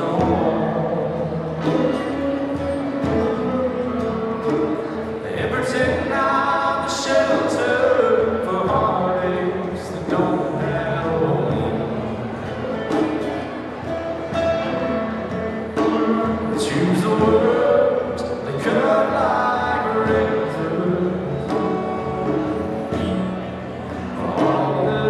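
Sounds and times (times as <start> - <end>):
person singing: 0.0 - 13.2, 15.7 - 25.0
acoustic guitar: 0.0 - 25.0
electric guitar: 0.0 - 25.0.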